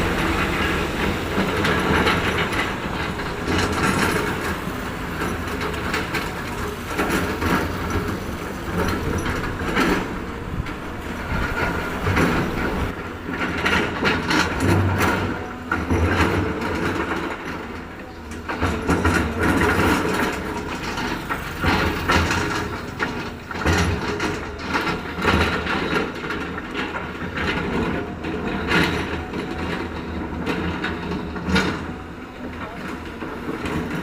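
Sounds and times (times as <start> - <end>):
diesel engine running: 0.0 - 34.0
metal clanks and knocks: 0.0 - 34.0.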